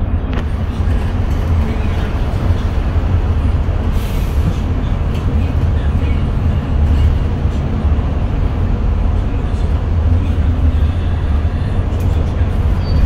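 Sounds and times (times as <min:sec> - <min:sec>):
bus engine rumbling: 0:00.0 - 0:13.0
road noise: 0:00.0 - 0:13.0.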